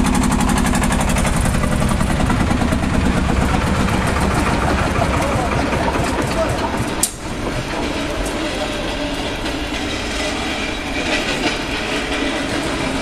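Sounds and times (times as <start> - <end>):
concrete pump engine rumble: 0.0 - 13.0.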